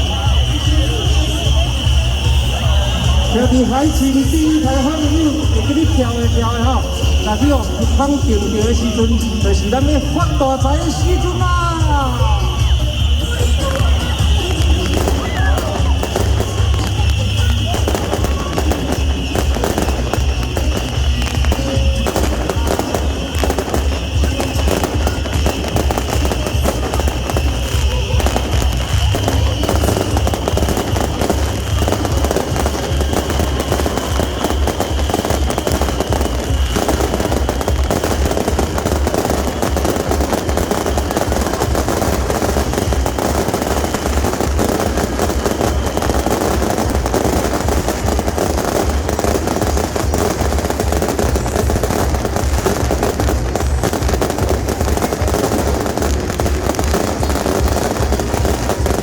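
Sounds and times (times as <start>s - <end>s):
rapid firecracker crackle: 0.0s - 59.0s.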